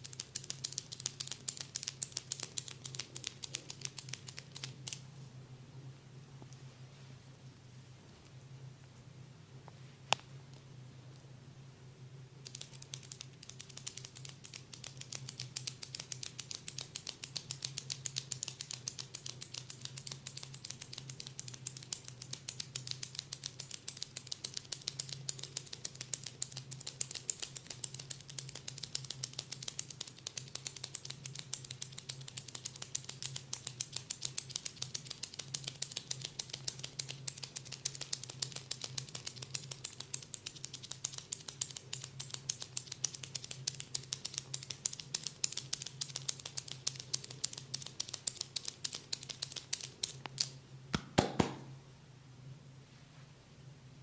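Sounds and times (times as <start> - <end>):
rapid crisp tapping on head: 0.0 - 5.0, 12.4 - 51.8
steady low hum: 0.0 - 54.0.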